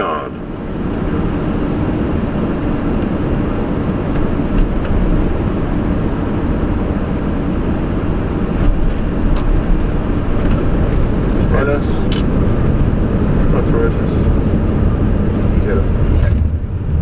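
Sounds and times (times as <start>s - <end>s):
rumble of engines and wheels: 0.0s - 17.0s.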